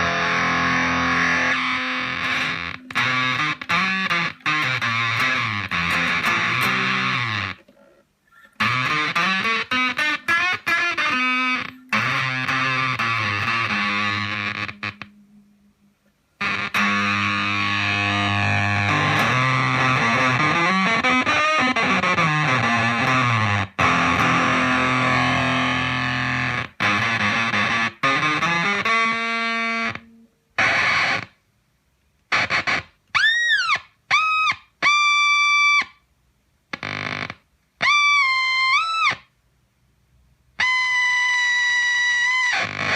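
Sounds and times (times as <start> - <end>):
fuzzed electric guitar: 0.0 - 15.4, 16.4 - 31.4, 32.3 - 35.8, 36.7 - 39.2, 40.6 - 42.9
guitar squealing tones: 0.0 - 31.4, 32.3 - 36.0, 36.8 - 39.3, 40.6 - 42.9.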